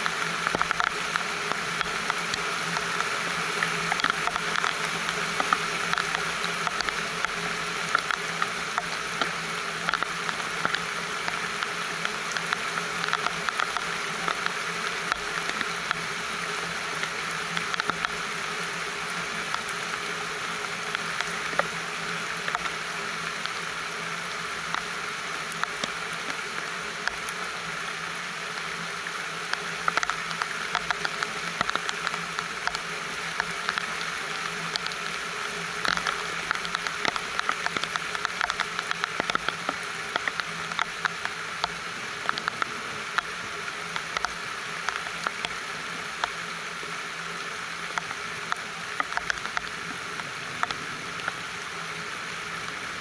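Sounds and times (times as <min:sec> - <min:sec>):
rain on a greenhouse roof: 0:00.0 - 0:53.0.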